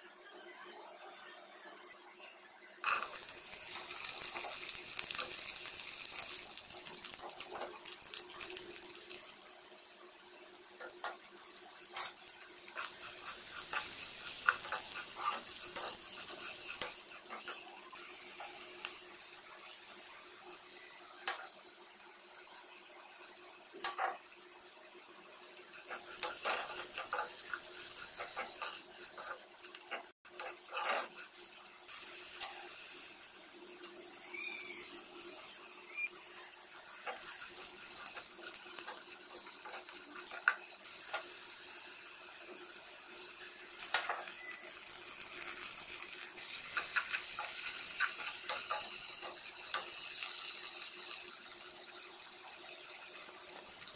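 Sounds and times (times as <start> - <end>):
onions sizzling in hot oil: 2.8 - 53.9.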